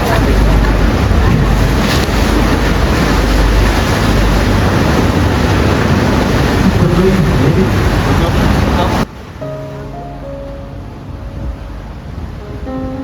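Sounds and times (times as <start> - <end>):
wind on microphone: 0.0 - 9.5, 10.2 - 13.0
low engine rumble: 0.0 - 13.0
sea water rushing past boat: 0.0 - 13.0.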